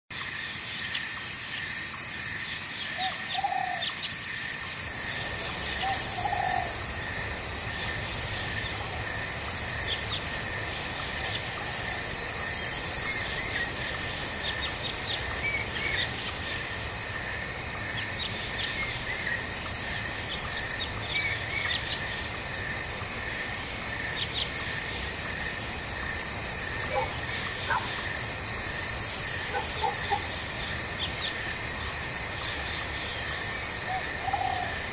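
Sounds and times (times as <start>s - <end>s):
crickets and insects trilling: 0.1s - 34.9s
frogs calling: 0.2s - 34.9s
high insect buzz: 0.2s - 34.9s.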